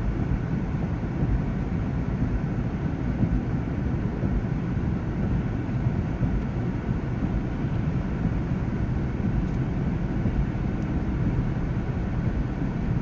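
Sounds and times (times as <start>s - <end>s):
car engine and tyre rumble: 0.0s - 13.0s
heavy rain on car: 0.0s - 13.0s.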